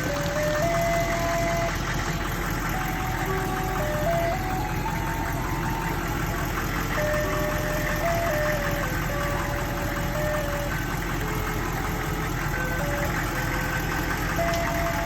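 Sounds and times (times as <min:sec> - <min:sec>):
ice cream truck jingle: 0:00.0 - 0:15.0
truck engine idling: 0:00.0 - 0:15.0.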